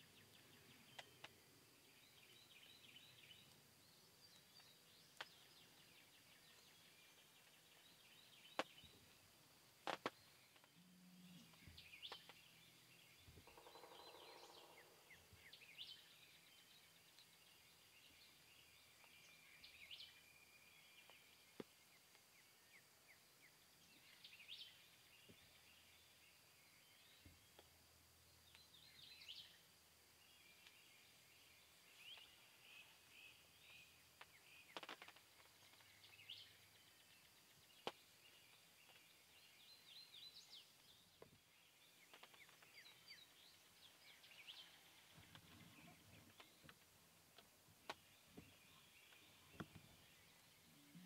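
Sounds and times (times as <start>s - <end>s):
distant small birds chirping: 0.0s - 51.0s.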